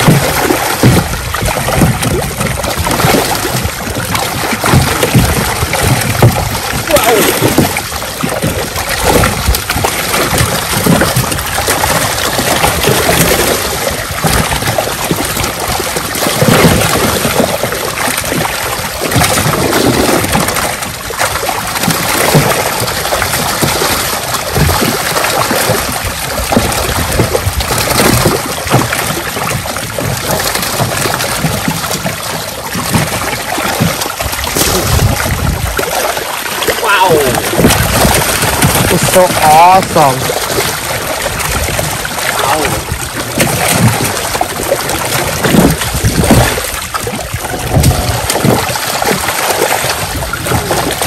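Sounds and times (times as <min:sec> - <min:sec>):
fish splashing in water: 0:00.0 - 0:51.0.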